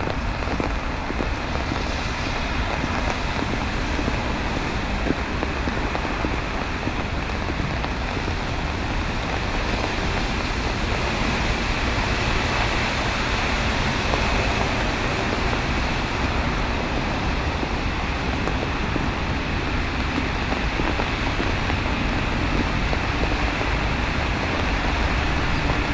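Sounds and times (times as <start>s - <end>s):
rain and sleet falling: 0.0s - 25.9s.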